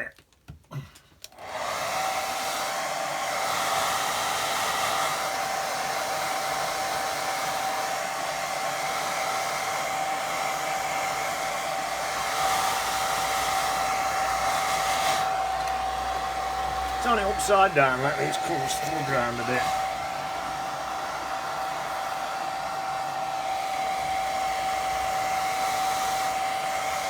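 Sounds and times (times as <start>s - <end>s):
hair dryer blowing: 1.2s - 27.0s.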